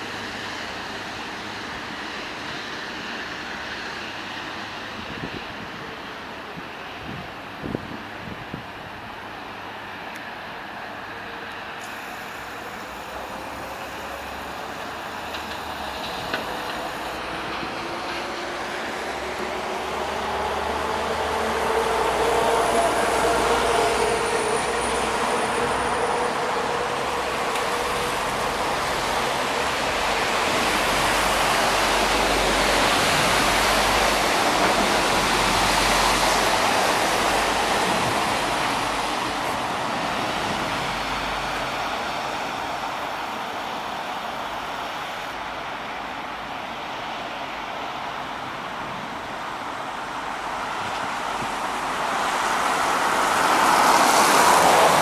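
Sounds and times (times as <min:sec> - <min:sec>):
rolling road noise: 0:00.0 - 0:55.0.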